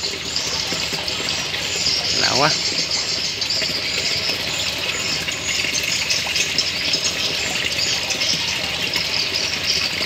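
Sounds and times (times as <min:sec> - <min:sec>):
water flowing and trickling: 0:00.0 - 0:10.0.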